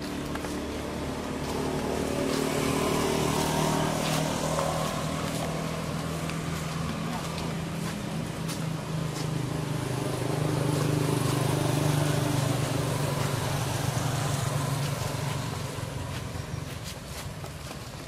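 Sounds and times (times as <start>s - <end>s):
motor engine humming: 0.0s - 17.7s.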